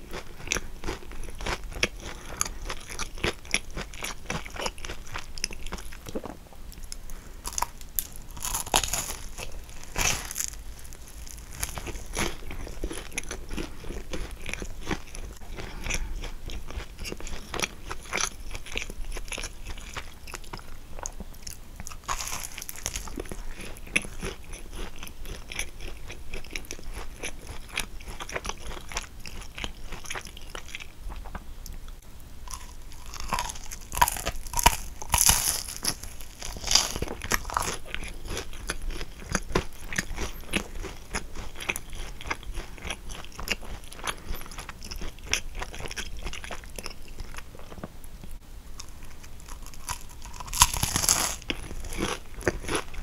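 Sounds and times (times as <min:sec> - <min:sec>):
person chewing crunchy pastry: 0:00.0 - 0:53.0.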